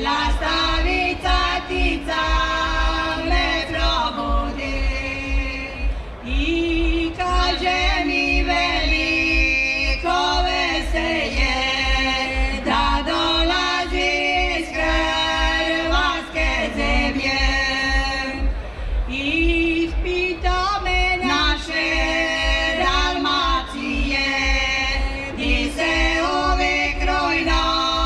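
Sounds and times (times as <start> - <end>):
steady low beat: 0.0 - 28.0
voices singing in harmony: 0.0 - 28.0.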